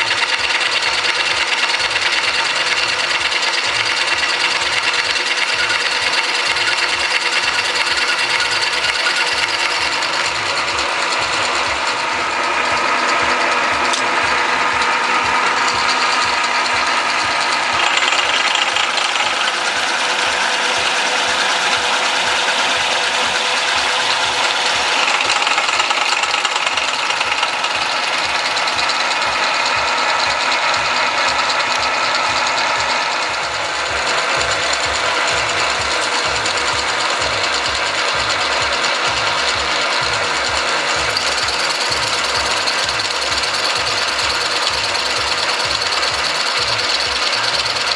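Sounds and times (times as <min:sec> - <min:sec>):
milling machine cutting metal: 0:00.0 - 0:47.9.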